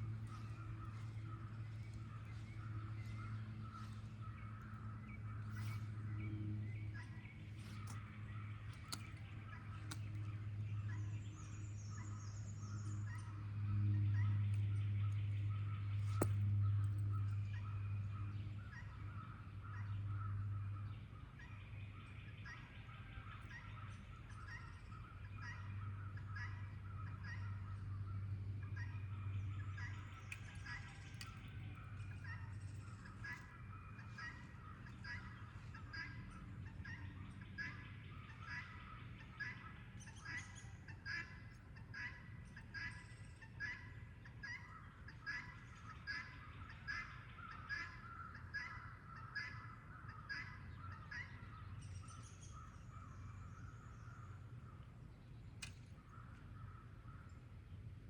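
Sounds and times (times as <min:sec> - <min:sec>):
birds calling: 0:00.0 - 0:58.0
low steady hum: 0:00.0 - 0:58.0.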